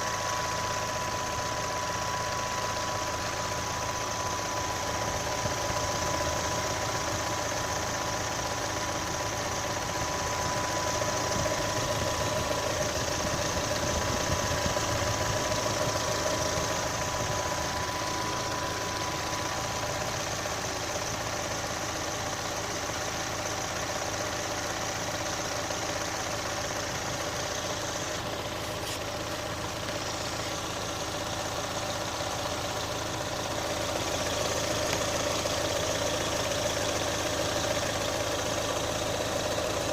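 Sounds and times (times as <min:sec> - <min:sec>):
car engine idling: 0:00.0 - 0:39.9
thin steady whine: 0:00.0 - 0:39.9.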